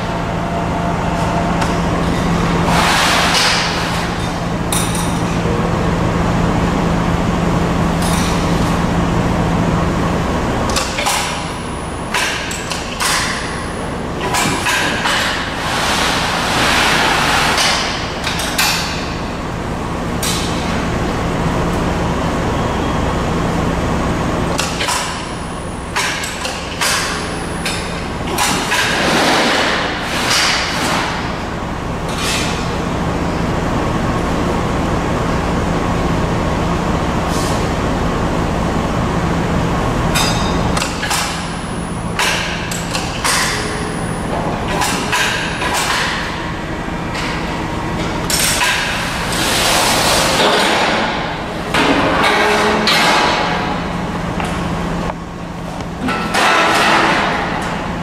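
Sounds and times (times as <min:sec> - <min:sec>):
folding machine humming: 0:00.0 - 0:58.0.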